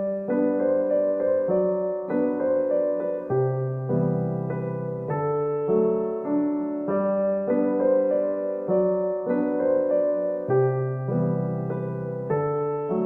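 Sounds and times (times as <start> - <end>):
electric piano tune: 0.0 - 13.0.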